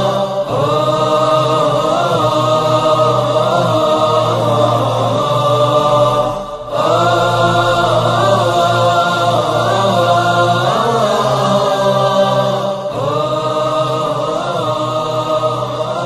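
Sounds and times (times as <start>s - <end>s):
chanted vocal melody: 0.0s - 16.0s
low drone: 0.0s - 16.0s.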